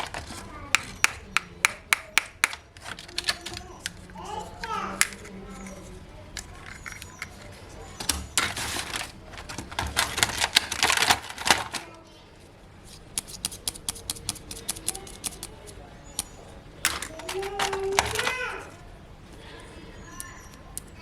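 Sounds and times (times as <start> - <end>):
plastic toy pieces clicking: 0.0 - 12.0, 12.9 - 18.8
crinkly rustling: 0.0 - 21.0.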